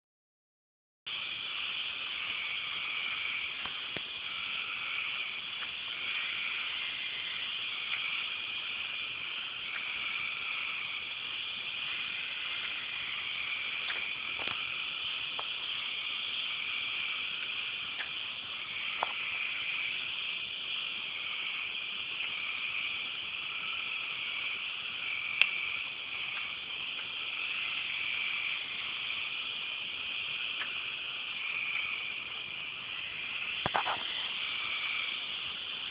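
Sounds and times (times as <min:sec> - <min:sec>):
crickets chirping: 0:01.1 - 0:35.9.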